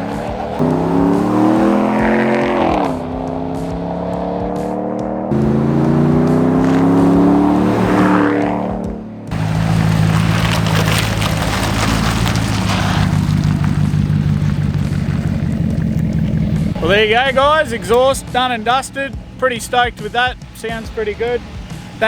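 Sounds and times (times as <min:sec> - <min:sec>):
pickup truck accelerating: 0:00.0 - 0:22.0.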